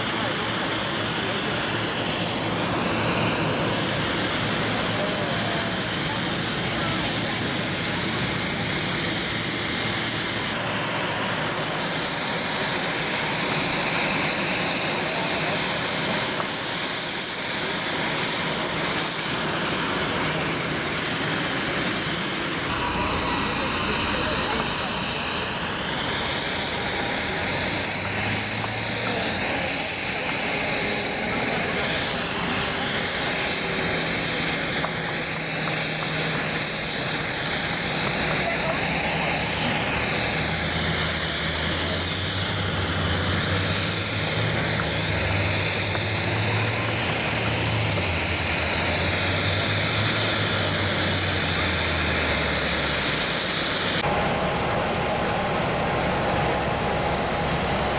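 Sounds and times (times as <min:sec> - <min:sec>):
jet engines rushing: 0:00.0 - 0:57.9.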